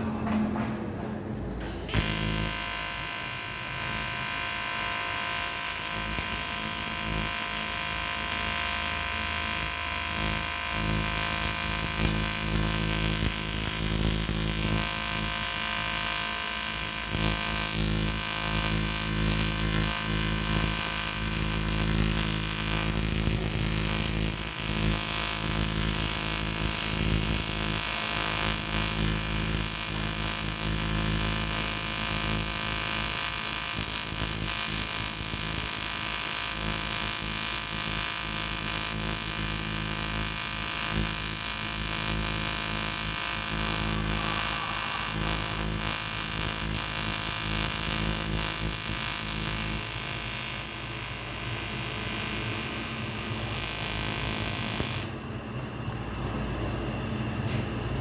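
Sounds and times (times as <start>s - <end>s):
welding arc buzzing: 1.6s - 55.9s.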